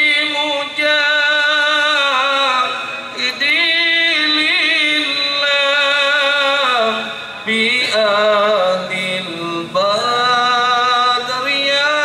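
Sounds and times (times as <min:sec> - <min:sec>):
man singing devotional chant: 0:00.0 - 0:12.0.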